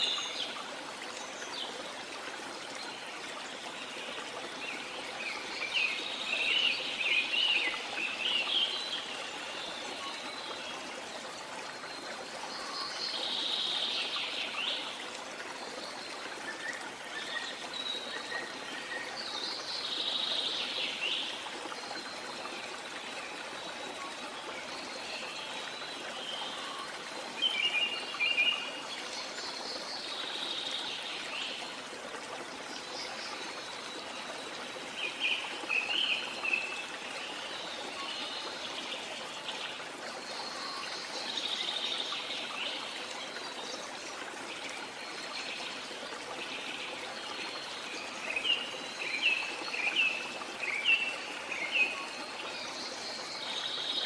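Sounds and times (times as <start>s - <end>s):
stream running water: 0.0s - 54.0s.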